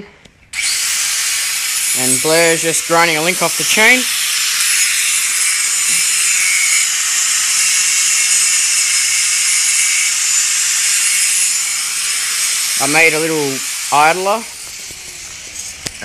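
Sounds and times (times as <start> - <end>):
power grinder cutting steel chain: 0.6 - 16.0.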